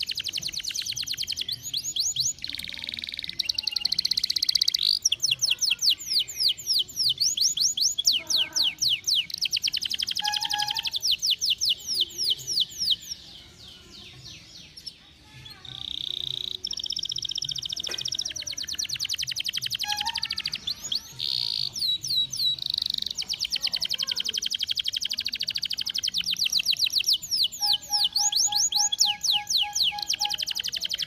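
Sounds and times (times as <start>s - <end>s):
canary singing trills: 0.0s - 31.0s.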